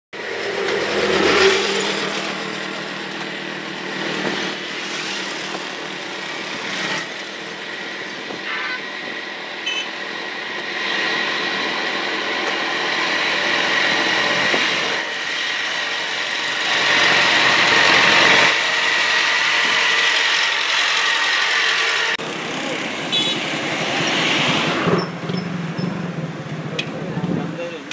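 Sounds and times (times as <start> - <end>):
road traffic: 0.1 - 27.9
motorcycles passing: 0.2 - 19.2, 21.6 - 27.9
tractor engine: 0.2 - 26.7.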